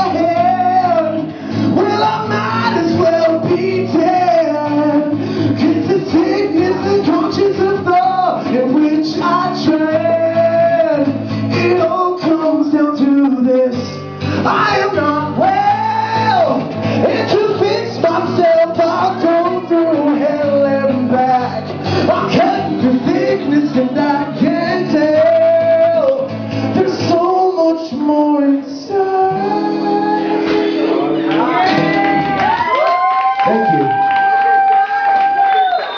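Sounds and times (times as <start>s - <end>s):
man singing: 0.0s - 32.3s
acoustic guitar: 0.0s - 35.9s.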